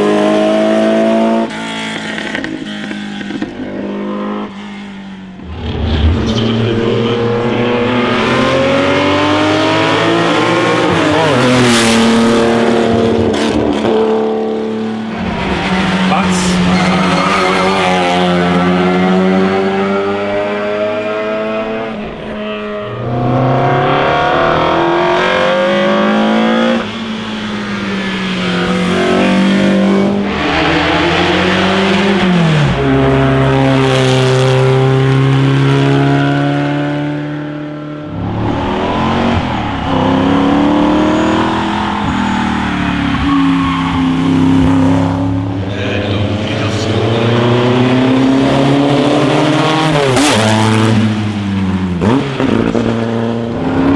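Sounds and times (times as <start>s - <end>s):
racing car engines accelerating: 0.0s - 53.9s.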